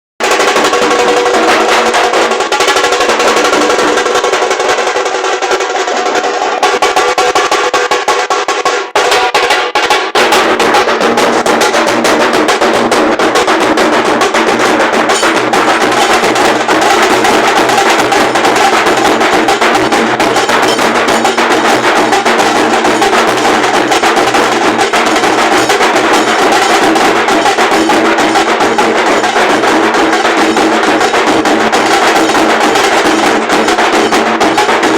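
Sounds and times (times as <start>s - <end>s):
dhol drums playing: 0.2s - 34.9s.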